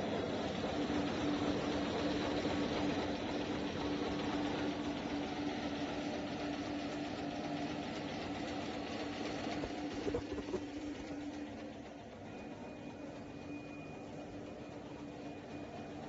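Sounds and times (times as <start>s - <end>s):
machine mechanical hum: 0.0s - 16.0s.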